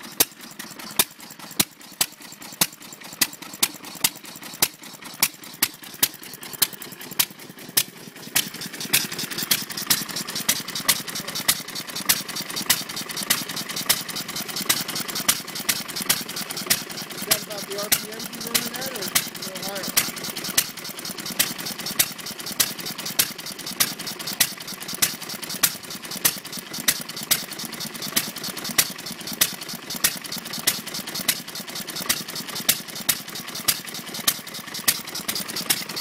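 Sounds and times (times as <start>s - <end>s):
single-cylinder engine exhaust pops: 0.0s - 36.0s.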